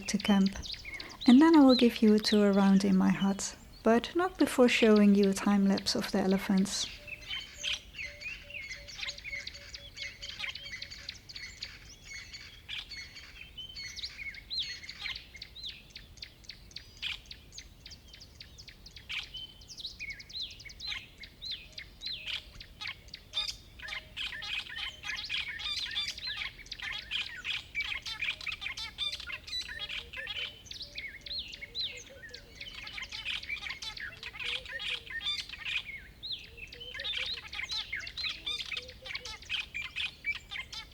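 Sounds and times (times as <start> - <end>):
birds chirping and singing: 0.0 - 40.9.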